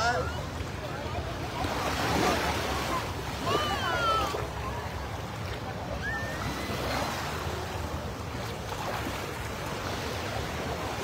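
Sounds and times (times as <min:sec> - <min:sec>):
small waves washing on beach: 0:00.0 - 0:11.0.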